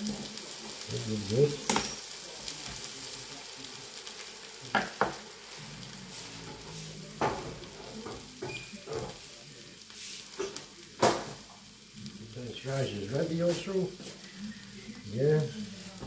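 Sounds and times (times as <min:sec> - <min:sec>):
food sizzling in pans: 0:00.0 - 0:16.0.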